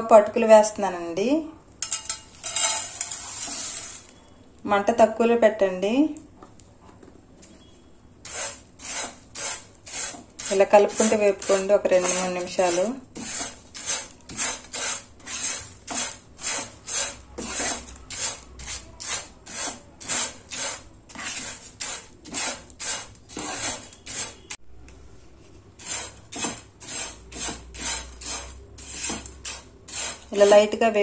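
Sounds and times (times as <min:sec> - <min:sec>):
spatula scraping in a pan: 0:01.8 - 0:04.2, 0:07.7 - 0:24.6, 0:25.2 - 0:31.0.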